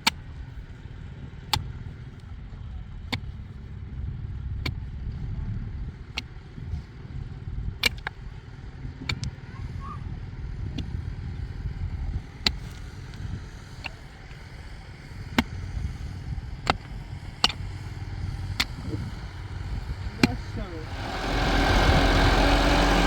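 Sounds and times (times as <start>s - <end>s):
tractor engine running low: 0.0s - 23.0s.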